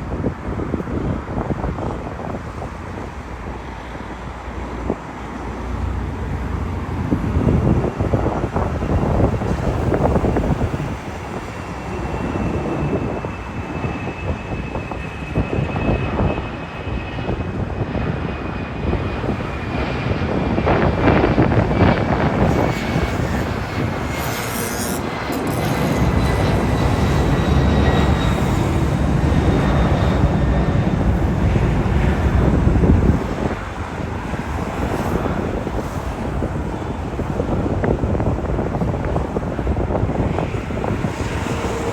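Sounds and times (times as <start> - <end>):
jet airliner engines passing: 0.0 - 41.9
wind buffeting microphone: 0.0 - 41.9.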